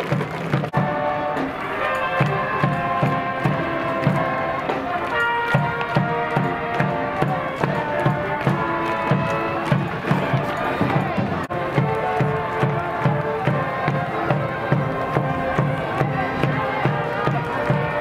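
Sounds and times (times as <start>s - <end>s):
woodwinds and tuba melody: 0.6s - 18.0s.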